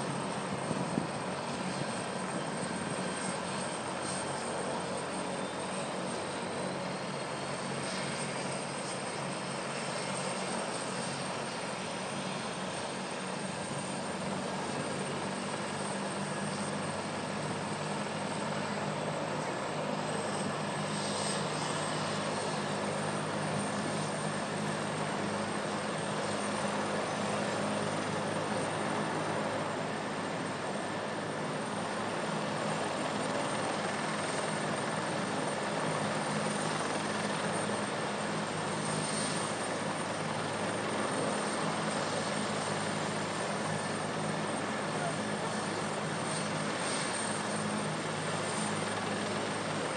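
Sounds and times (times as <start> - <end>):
helicopter rotor and engine: 0.0 - 49.9.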